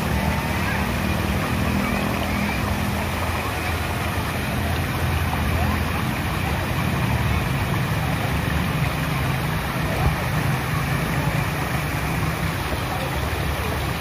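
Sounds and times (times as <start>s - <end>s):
traffic rushing: 0.0s - 14.0s
vehicle engine humming: 0.0s - 14.0s.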